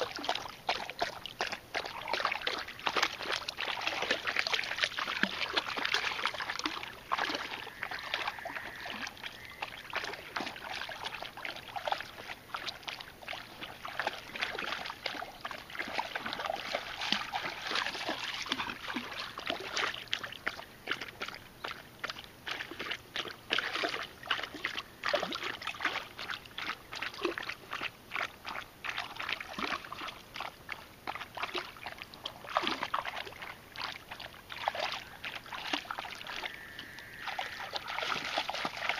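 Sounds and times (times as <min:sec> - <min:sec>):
dog lapping water: 0:00.0 - 0:38.9.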